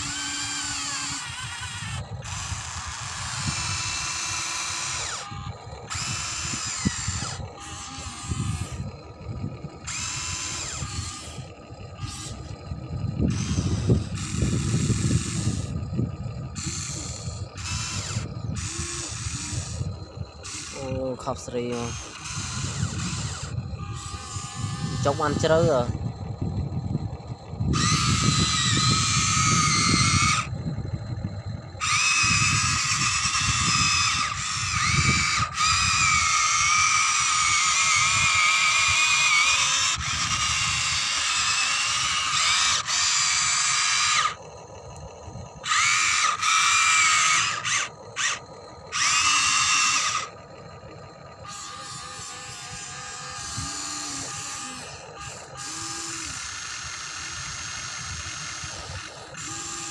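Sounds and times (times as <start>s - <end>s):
small electric motors whining: 0.0s - 59.9s.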